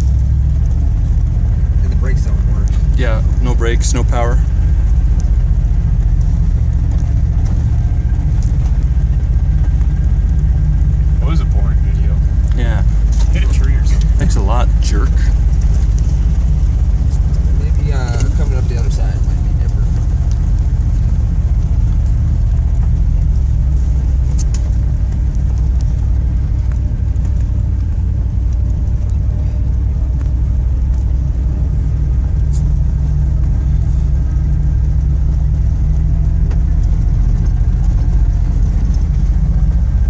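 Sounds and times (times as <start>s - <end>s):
car engine running at low revs: 0.0s - 40.0s.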